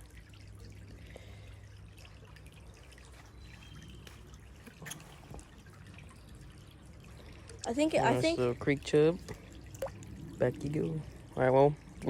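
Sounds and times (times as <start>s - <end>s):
creek water trickling: 0.0s - 12.0s
small water drips: 0.0s - 12.0s.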